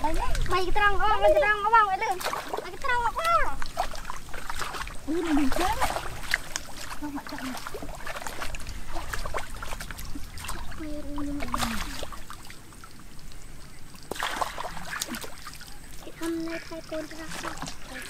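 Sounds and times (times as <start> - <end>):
muddy water splashing: 0.0 - 18.0
net scooping through water: 2.0 - 13.0, 14.0 - 18.0.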